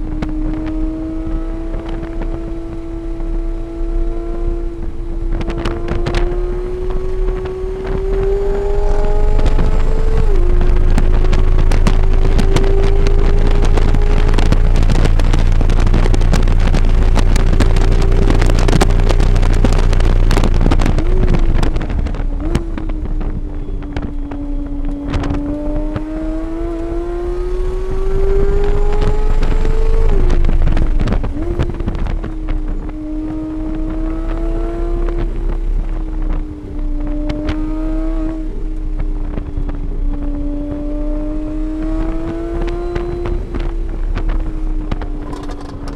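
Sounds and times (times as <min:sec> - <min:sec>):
car engine revving: 0:00.0 - 0:45.9
road rumble: 0:00.0 - 0:45.9
wind on microphone: 0:00.0 - 0:45.9.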